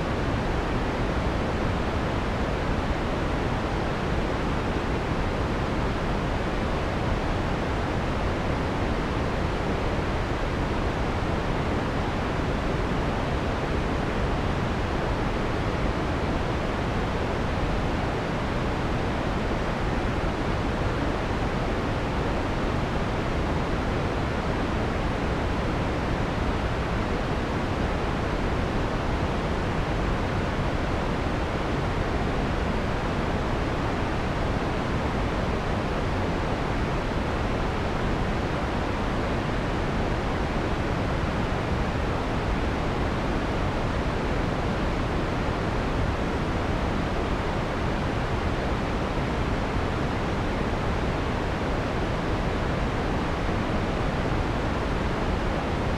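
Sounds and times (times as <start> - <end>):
soft filtered white noise: 0.0 - 55.9.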